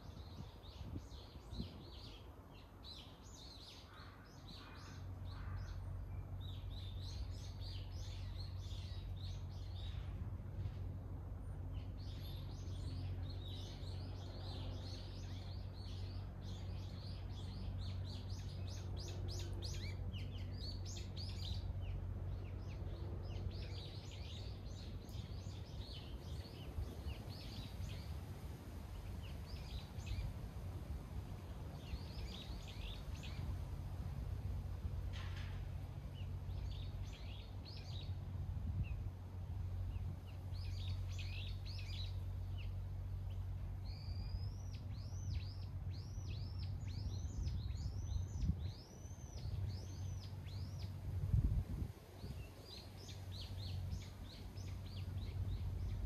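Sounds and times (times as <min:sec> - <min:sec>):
small birds chirping: 0:00.0 - 0:34.0, 0:35.1 - 0:56.0.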